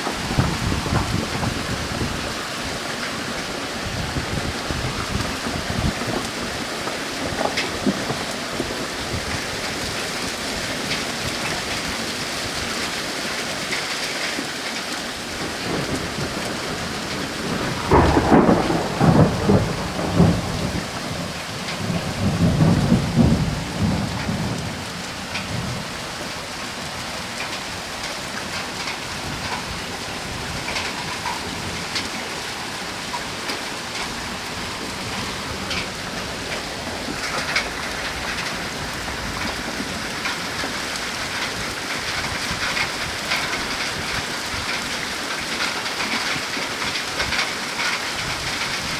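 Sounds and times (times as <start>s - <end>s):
thunder rumbling: 0.0s - 12.0s, 15.4s - 27.7s, 28.3s - 48.9s
steady rain: 0.0s - 48.9s.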